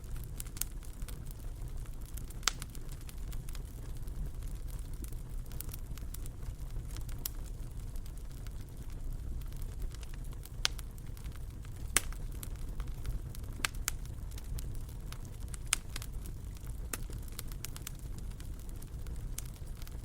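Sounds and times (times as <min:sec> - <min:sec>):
fire crackling and popping: 0:00.0 - 0:20.0
wood fire rumbling: 0:00.0 - 0:20.0.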